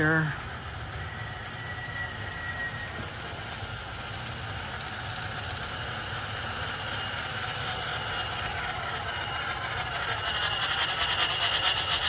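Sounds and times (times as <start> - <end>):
model train mechanical hum: 0.0 - 12.0
rail noise: 0.0 - 12.0.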